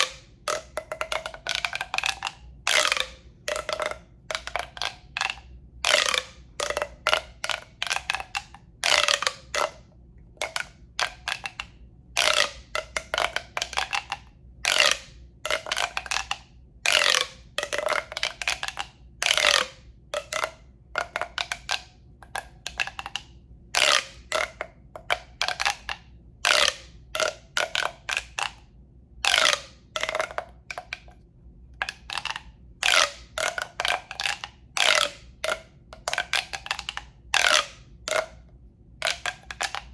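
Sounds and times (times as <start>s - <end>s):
tube scraping and tapping: 0.0s - 39.9s.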